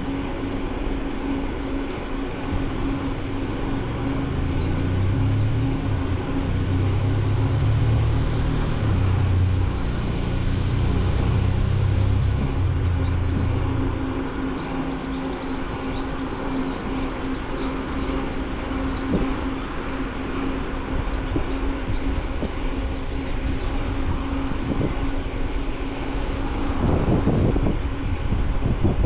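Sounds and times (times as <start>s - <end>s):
bicycle tyres rumbling: 0.0s - 29.0s
constant hum: 0.0s - 29.0s
wind on microphone: 0.0s - 29.0s.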